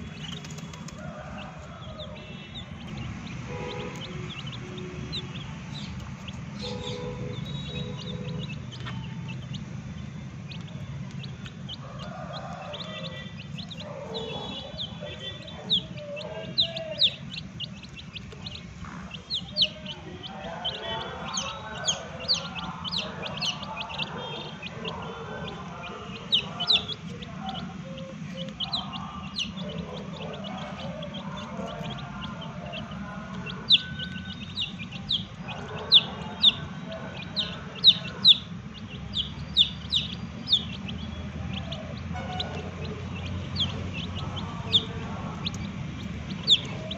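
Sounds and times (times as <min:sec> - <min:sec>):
chicks peeping: 0:00.0 - 0:46.9
steady low hum: 0:00.0 - 0:46.9.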